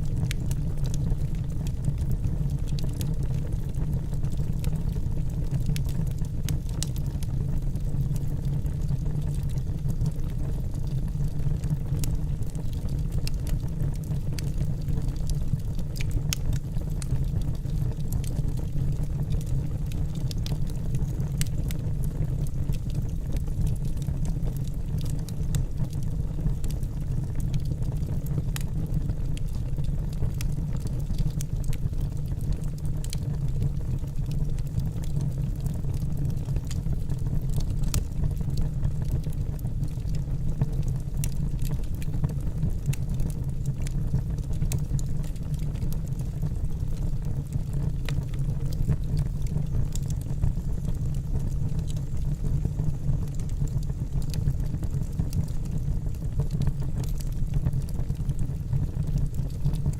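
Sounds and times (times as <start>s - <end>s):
logs crackling and popping: 0.0s - 59.9s
wood fire roaring: 0.0s - 59.9s.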